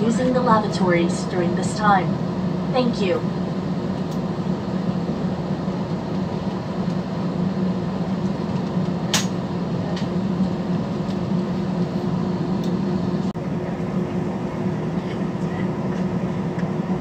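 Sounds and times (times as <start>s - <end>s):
airliner cabin engine hum: 0.0s - 17.0s.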